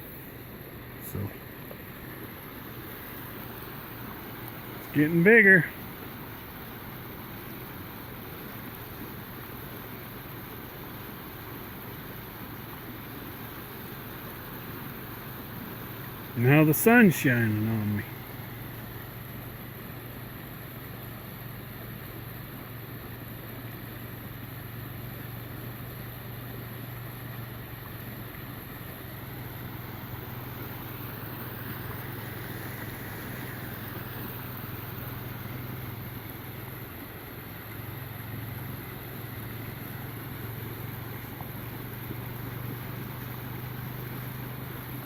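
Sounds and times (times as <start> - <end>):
floodwater rushing: 0.4 - 45.0.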